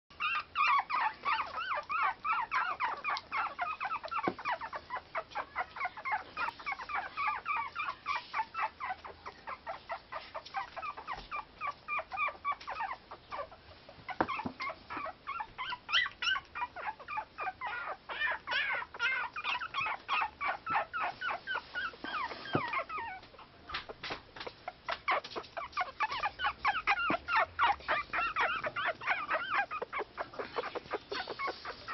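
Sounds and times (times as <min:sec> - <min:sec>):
puppies squeaking and whimpering: 0:00.1 - 0:31.9.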